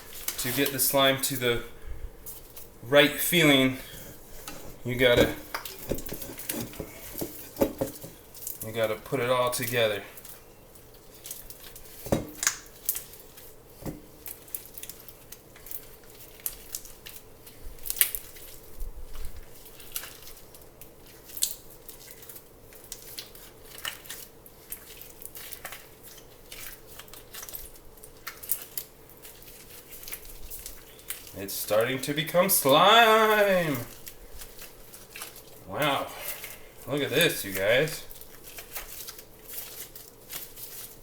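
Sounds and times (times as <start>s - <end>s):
slime squelching and crackling: 0.0s - 7.6s, 8.2s - 41.0s.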